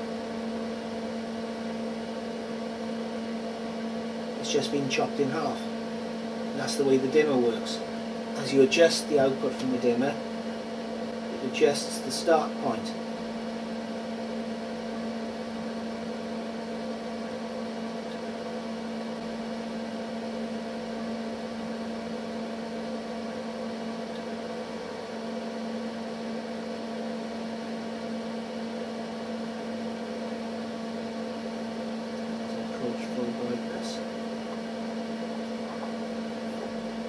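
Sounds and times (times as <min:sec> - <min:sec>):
mains electrical hum: 0:00.0 - 0:37.0.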